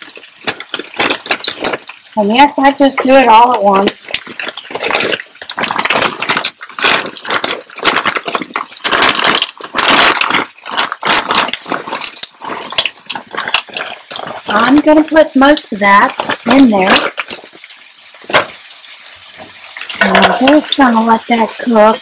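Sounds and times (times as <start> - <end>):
plastic bag rustling: 0.0 - 22.0
vegetables sizzling in hot oil: 0.0 - 22.0.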